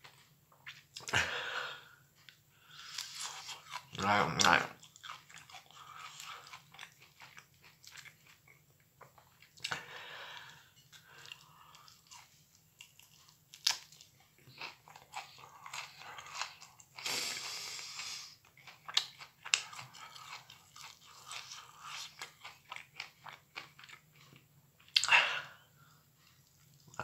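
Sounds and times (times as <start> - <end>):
chewing crunchy broccoli: 2.2 - 25.2, 25.8 - 27.0.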